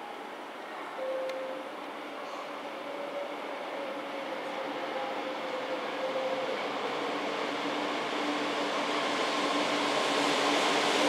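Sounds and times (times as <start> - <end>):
train running noise: 0.0 - 11.0.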